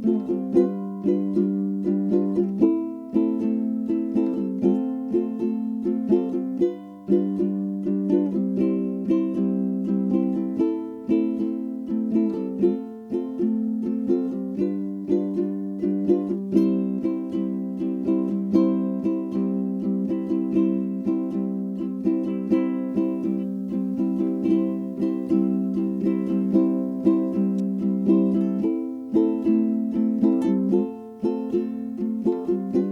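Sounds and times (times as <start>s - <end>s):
plucked string instrument strumming: 0.0s - 32.9s.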